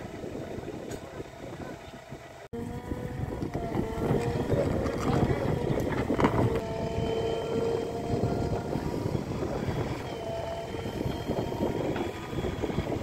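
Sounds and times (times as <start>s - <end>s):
diesel engine running under load: 0.0s - 13.0s
faint thin whine: 0.9s - 13.0s.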